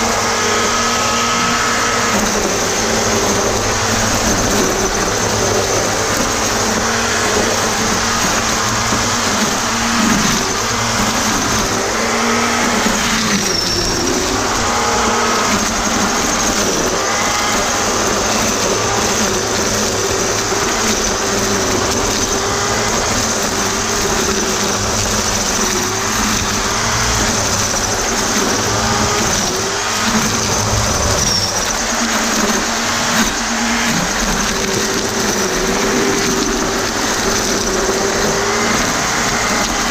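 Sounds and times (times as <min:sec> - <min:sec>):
electric string trimmer running: 0:00.0 - 0:39.9.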